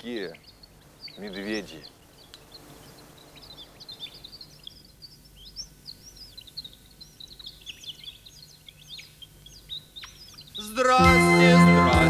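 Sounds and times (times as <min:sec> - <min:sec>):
faint low hum: 0:00.0 - 0:12.0
songbirds chirping: 0:00.0 - 0:12.0.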